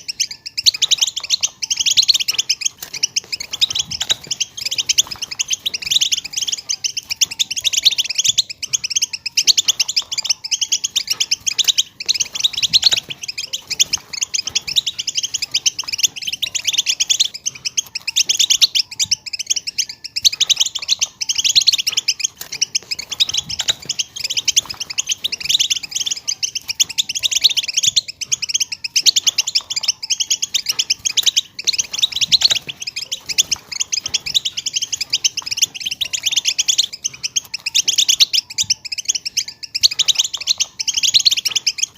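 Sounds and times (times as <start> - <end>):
goldfinches twittering: 0.0 - 41.9.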